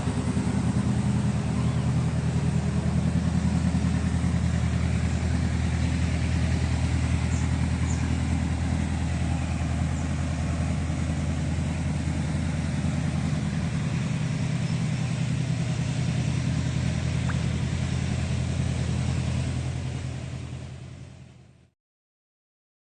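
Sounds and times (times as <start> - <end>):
excavator diesel engine running: 0.0 - 21.6.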